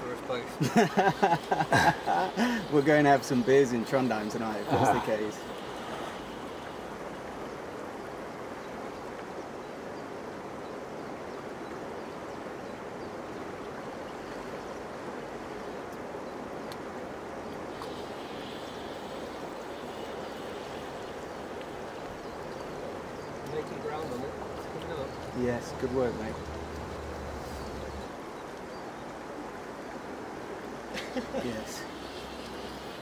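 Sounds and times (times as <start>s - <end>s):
river rushing past rocks: 0.0s - 33.0s.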